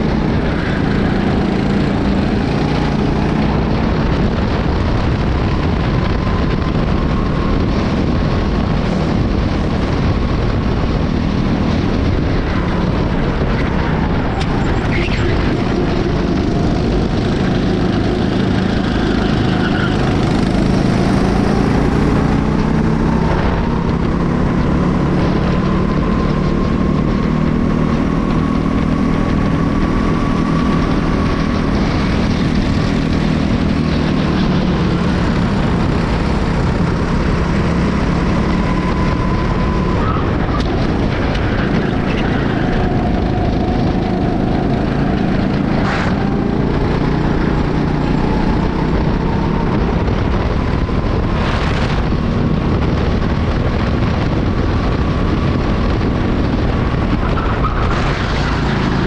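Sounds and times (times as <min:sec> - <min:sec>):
kart engine running: 0:00.0 - 0:59.0
wind noise: 0:00.0 - 0:59.0.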